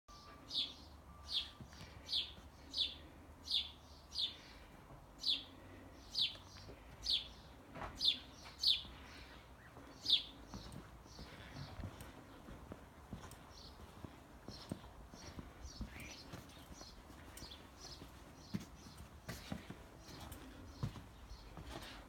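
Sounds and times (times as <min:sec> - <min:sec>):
small bird chirping: 0:00.1 - 0:12.4, 0:13.2 - 0:21.9.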